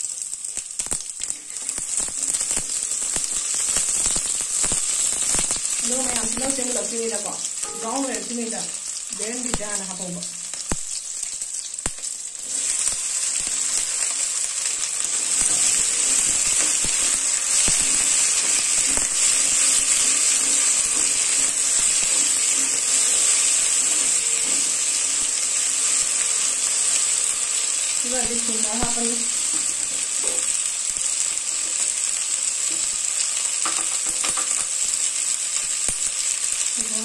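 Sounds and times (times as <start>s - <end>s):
okra sizzling in hot oil: 0.0s - 37.0s.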